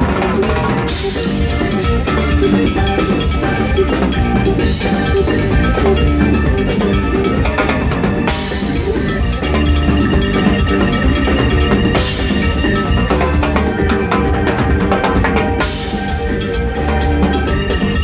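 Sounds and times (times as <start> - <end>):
latin rock band playing live: 0.0 - 18.0.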